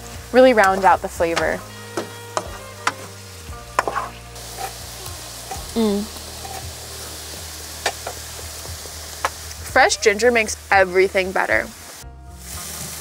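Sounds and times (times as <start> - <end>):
tofu sizzling in a pan: 0.0 - 13.0.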